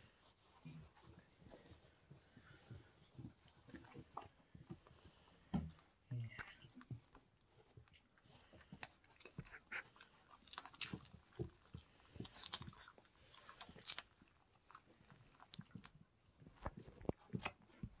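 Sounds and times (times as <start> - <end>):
puppies chewing and smacking: 0.0 - 18.0.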